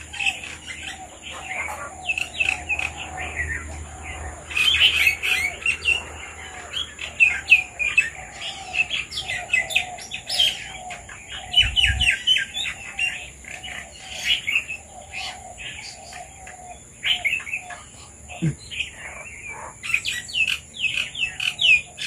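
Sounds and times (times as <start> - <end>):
birds chirping and whistling: 0.0 - 22.0.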